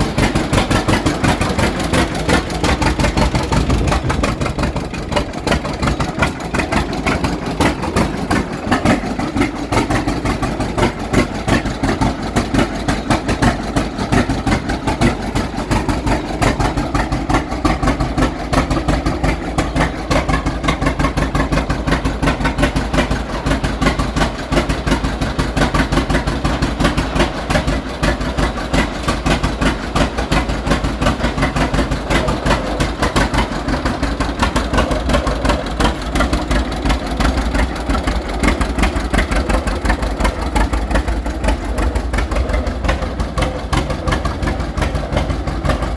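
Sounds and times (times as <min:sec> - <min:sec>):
two-cylinder tractor engine idling: 0:00.0 - 0:45.9.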